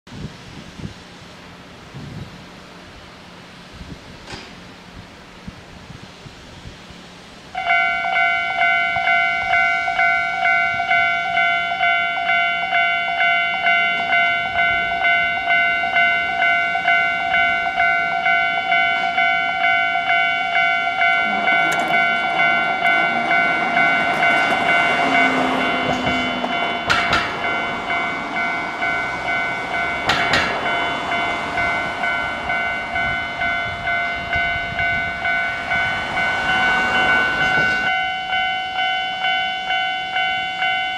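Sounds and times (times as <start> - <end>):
approaching electric train: 0.1 - 40.9
sharp train clacks: 4.2 - 4.6, 7.6 - 40.9
level-crossing warning bell: 7.5 - 40.9.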